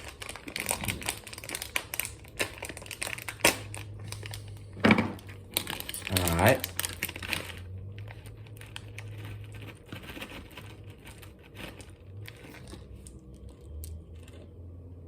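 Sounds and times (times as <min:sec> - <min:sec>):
plastic bag crinkling: 0:00.0 - 0:14.6
faint low hum: 0:00.0 - 0:15.0.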